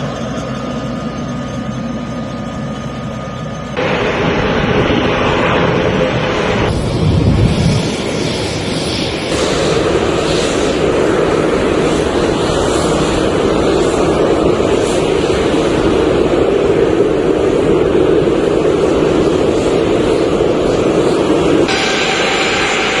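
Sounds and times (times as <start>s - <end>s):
airplane engines running: 0.0s - 23.0s.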